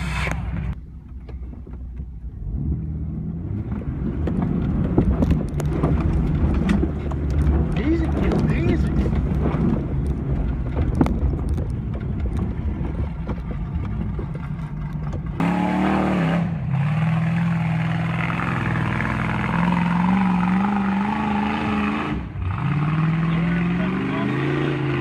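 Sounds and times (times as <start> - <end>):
vehicle engine revving: 2.3 - 25.0.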